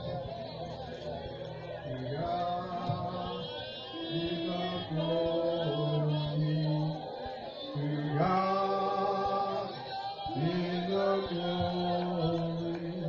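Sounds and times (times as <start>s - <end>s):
person singing slowly: 1.8s - 13.0s.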